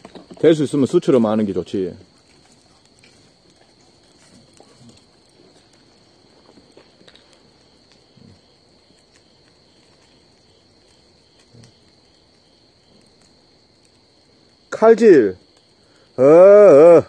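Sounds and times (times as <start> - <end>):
crickets chirring: 0.0 - 17.0
wood fire crackling: 0.0 - 17.0.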